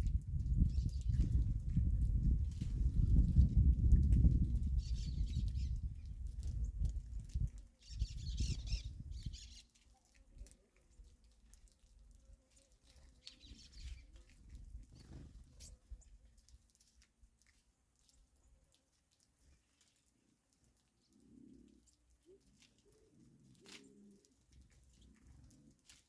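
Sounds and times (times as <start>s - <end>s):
small birds chirping: 0.1s - 1.8s, 3.0s - 26.0s.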